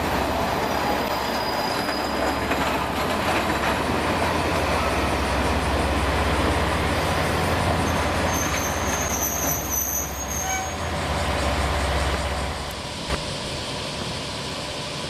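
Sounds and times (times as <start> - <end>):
diesel railcar engine idling: 0.0 - 9.4, 10.7 - 15.0.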